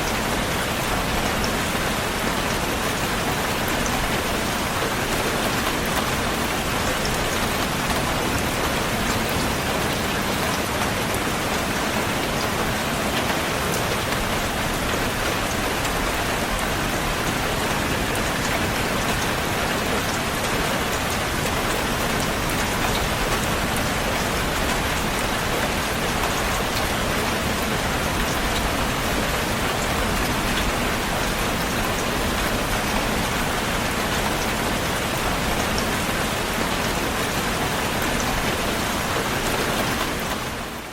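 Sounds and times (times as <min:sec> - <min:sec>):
heavy rain on hard surface: 0:00.0 - 0:40.9.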